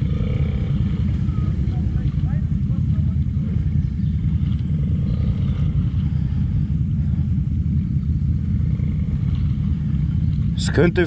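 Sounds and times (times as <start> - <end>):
quad bike engine rumbling: 0.0 - 11.0.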